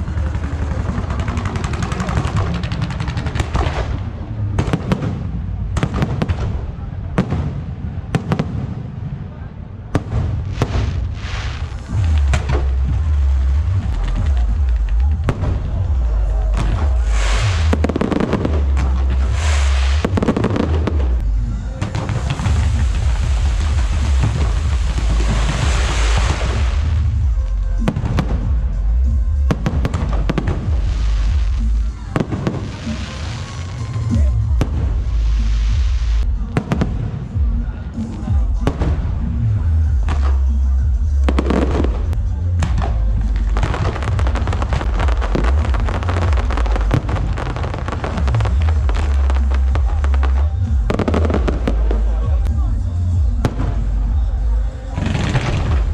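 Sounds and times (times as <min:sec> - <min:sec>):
fireworks crackling and banging: 0:00.0 - 0:55.9
heavy low rumble: 0:00.0 - 0:55.9
loud music with heavy bass: 0:09.9 - 0:55.9.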